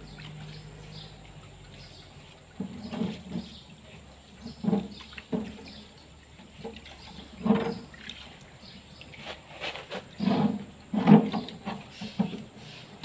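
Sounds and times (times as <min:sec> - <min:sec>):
oily liquid sloshing: 0:00.0 - 0:13.0.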